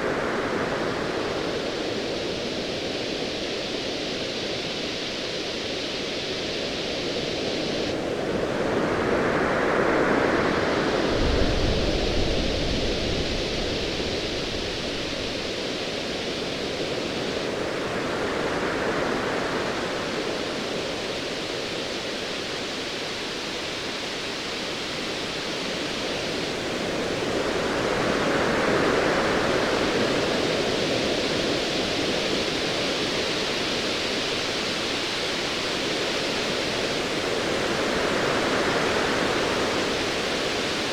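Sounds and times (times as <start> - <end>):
hiss of surf: 0.0 - 40.9.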